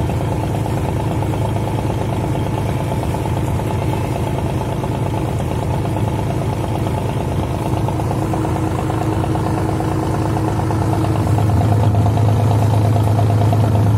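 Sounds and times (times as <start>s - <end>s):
boat diesel engine drone: 0.0s - 13.9s.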